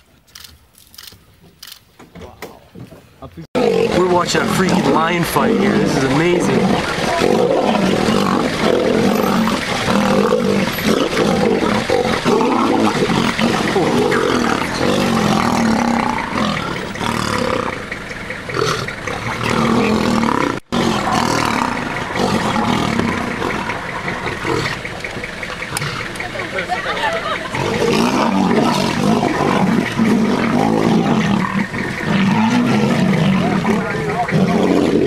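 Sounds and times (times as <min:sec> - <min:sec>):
lions roaring and growling: 0:03.6 - 0:35.0.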